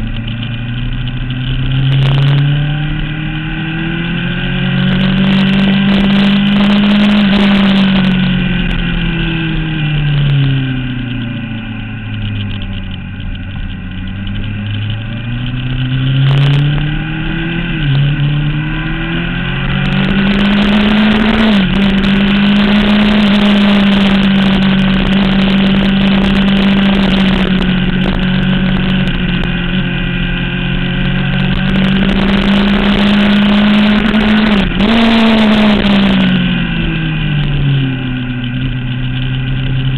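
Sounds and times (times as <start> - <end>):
gear changes: 0.0 - 39.9
motorcycle engine at speed: 0.0 - 39.9.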